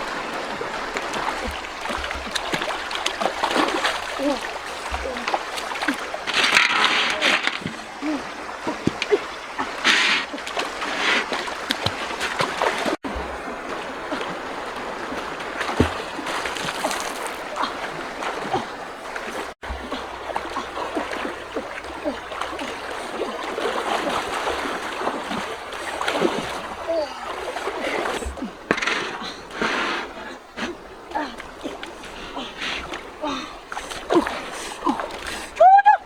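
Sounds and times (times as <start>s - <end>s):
water splashing and trickling: 0.0s - 36.0s.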